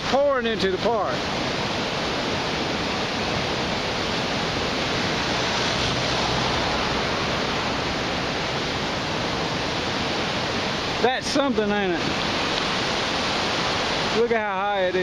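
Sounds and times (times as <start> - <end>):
rushing floodwater: 0.0 - 15.0.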